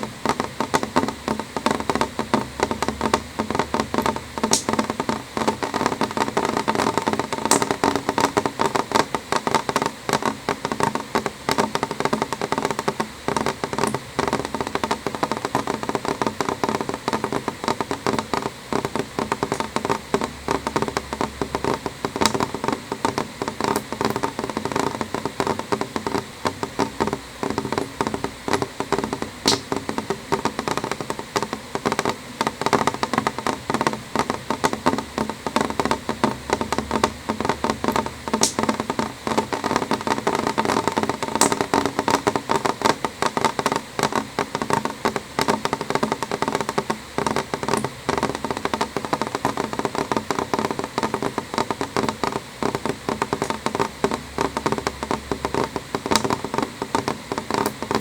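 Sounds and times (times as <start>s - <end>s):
raindrops tapping on window: 0.0s - 58.0s.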